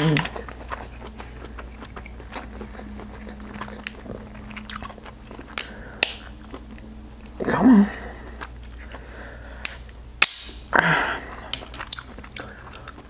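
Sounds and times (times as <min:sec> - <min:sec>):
person chewing with wet clicks: 0:00.0 - 0:07.5, 0:08.2 - 0:10.7, 0:11.3 - 0:13.0
faint steady hum: 0:00.0 - 0:13.0.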